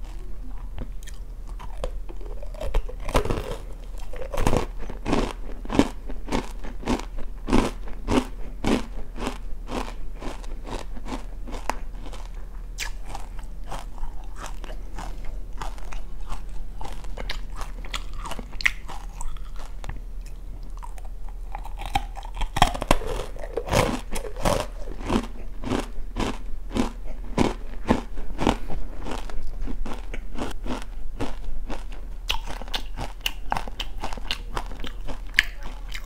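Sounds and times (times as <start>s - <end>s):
crunchy chewing of snack: 0.0s - 36.0s.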